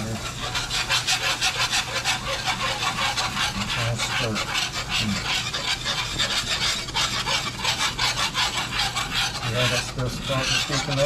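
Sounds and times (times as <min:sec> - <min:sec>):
wire whisk scraping a pan: 0:00.0 - 0:11.0.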